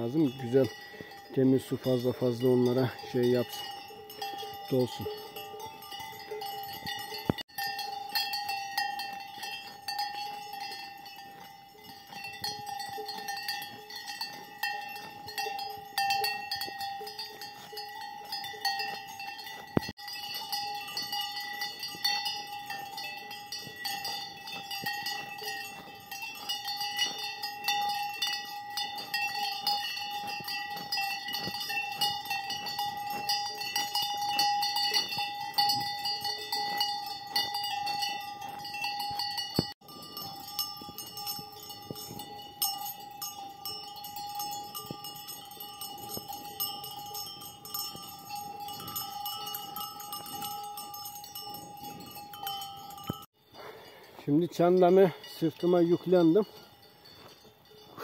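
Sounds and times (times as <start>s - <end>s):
cowbell ringing: 0.0s - 58.0s.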